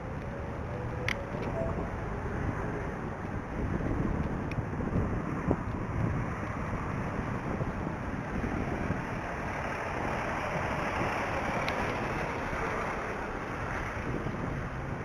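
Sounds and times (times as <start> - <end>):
road traffic: 0.0 - 15.0
wind on microphone: 0.0 - 15.0.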